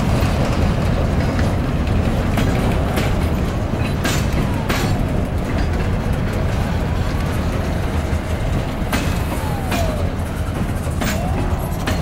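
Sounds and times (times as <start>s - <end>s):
freight cars rumbling: 0.0s - 12.0s
wheels clacking over rail joints: 0.0s - 12.0s.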